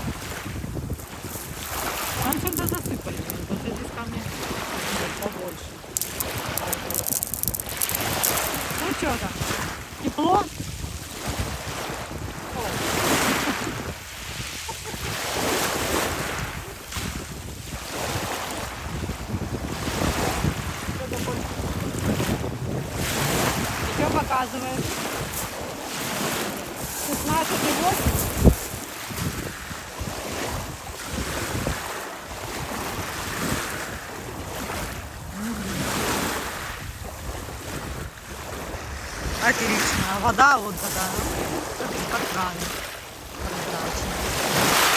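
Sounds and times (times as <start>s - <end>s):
waves washing over pebbles: 0.0s - 44.9s
wind rumbling on microphone: 0.0s - 44.9s.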